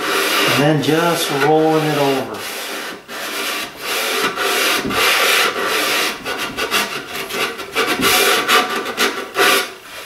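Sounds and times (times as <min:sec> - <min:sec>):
sanding block scratching on wood: 0:00.0 - 0:10.0.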